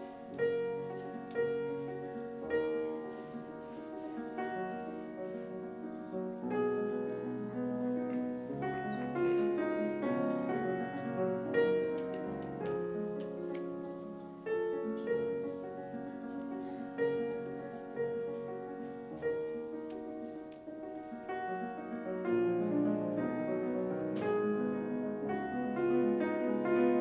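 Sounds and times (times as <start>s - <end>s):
solo grand piano: 0.0s - 27.0s.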